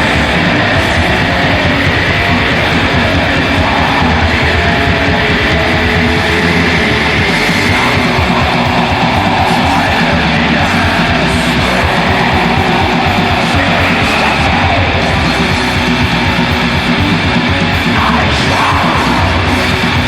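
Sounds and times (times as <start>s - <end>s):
distorted electric guitar: 0.0s - 20.0s
rapid pulse: 0.0s - 20.0s.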